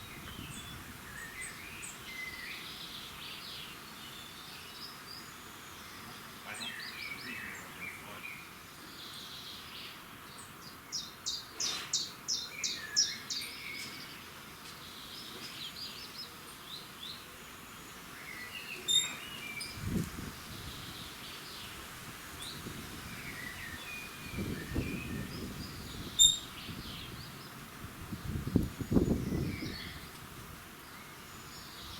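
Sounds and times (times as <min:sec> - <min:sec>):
faint background hiss: 0:00.0 - 0:31.9
songbirds singing: 0:00.0 - 0:31.9.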